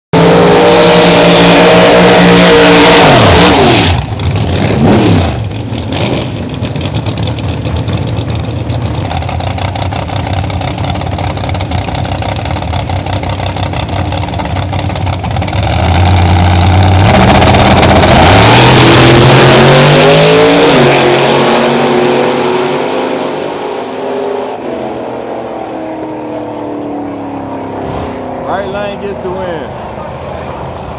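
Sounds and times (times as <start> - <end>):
truck engines at high revs: 0.1 - 30.9.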